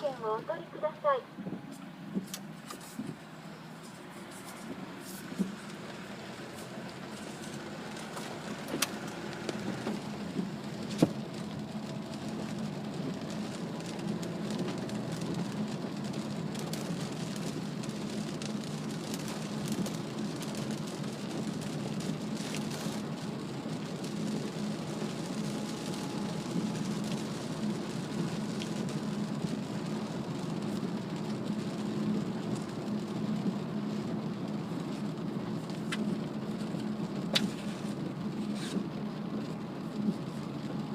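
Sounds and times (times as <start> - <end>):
car cabin road noise: 0.0 - 40.9
rain and spray on car body: 2.1 - 40.9.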